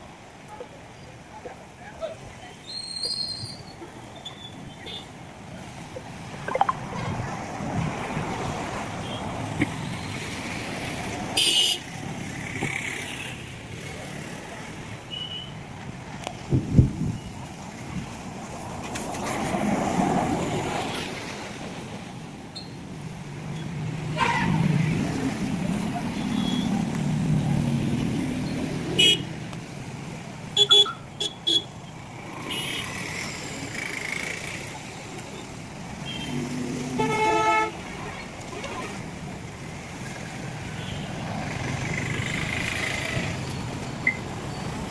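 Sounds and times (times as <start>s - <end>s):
traffic on a wet street: 0.0s - 44.9s.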